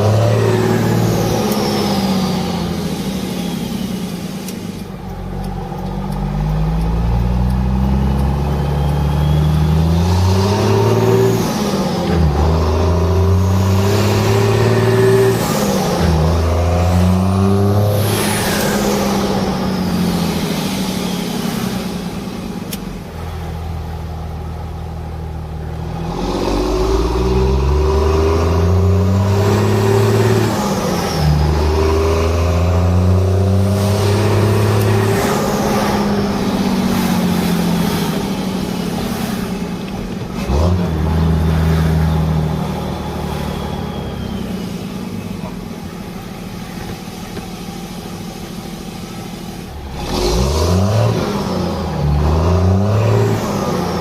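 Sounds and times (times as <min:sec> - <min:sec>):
diesel truck accelerating through gears: 0:00.0 - 0:54.0.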